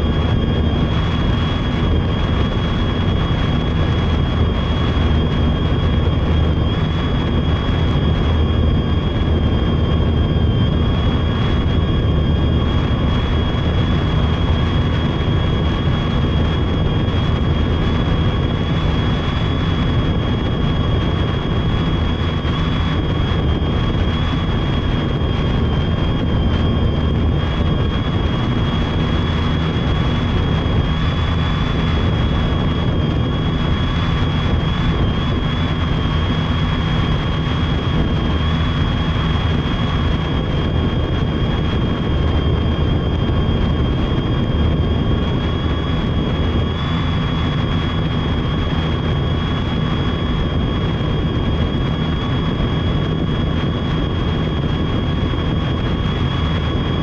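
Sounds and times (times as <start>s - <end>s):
high motor whine: 0.0s - 57.0s
propeller wash rushing: 0.0s - 57.0s.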